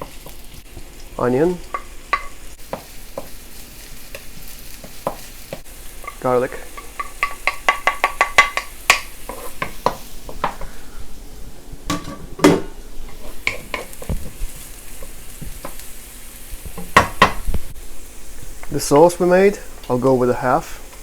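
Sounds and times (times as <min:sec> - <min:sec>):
spatula stirring in a wok: 0:00.0 - 0:11.3, 0:12.9 - 0:18.8, 0:19.4 - 0:21.0
aromatics sizzling in oil: 0:00.0 - 0:21.0.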